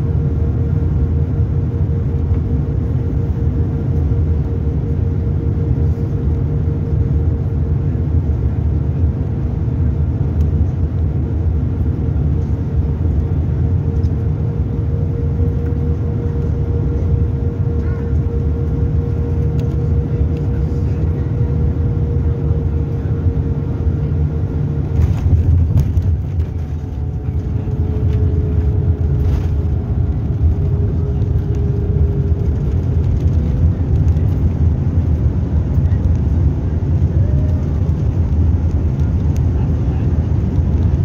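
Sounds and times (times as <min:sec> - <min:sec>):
aircraft cabin rumble: 0:00.0 - 0:41.0
faint engine whine: 0:00.0 - 0:41.0.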